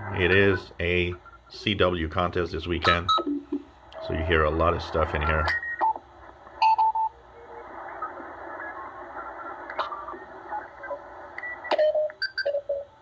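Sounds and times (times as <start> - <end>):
radio band hiss: 0.0 - 11.7.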